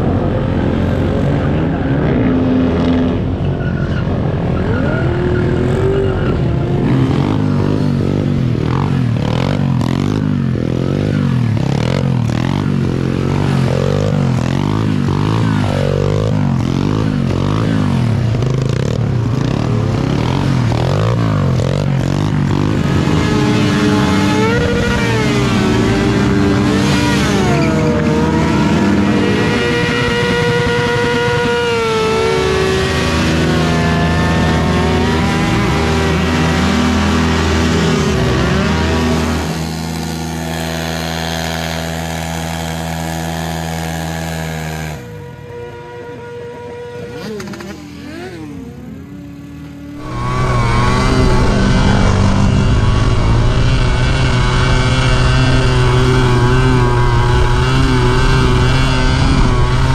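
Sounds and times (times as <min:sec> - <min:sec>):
motorcycle engine at high revs: 0:00.0 - 0:59.9
motorcycle engines revving: 0:00.0 - 0:59.9.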